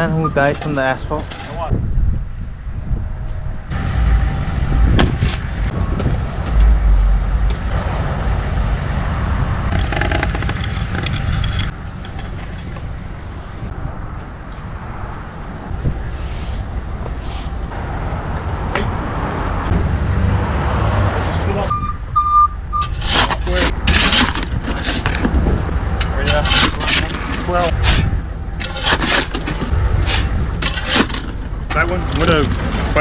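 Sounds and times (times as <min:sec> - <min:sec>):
truck engine rumbling: 0:00.0 - 0:33.0.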